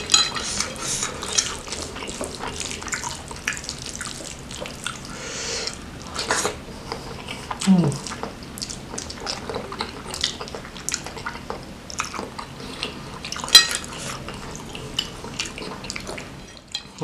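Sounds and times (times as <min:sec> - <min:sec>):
wet chewing and mouth smacks: 0:00.3 - 0:05.2, 0:06.0 - 0:16.4.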